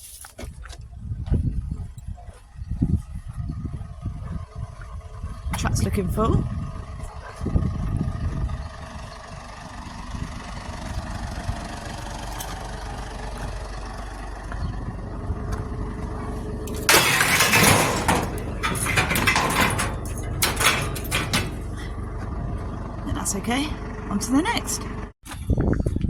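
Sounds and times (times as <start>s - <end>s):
truck engine running: 2.8s - 25.2s.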